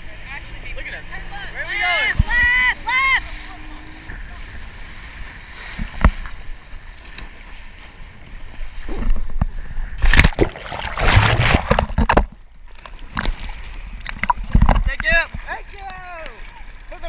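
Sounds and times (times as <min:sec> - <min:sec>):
rushing wind and water: 0:00.0 - 0:17.0
water splashing and sloshing: 0:00.0 - 0:17.0.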